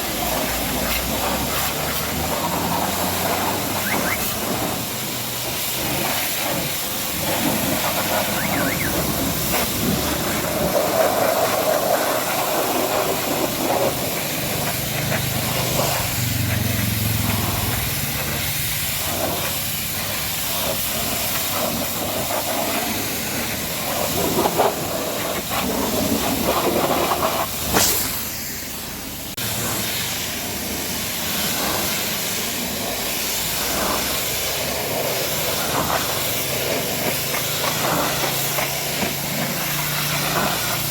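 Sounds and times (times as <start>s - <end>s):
pressure washer spraying water: 0.0s - 40.9s.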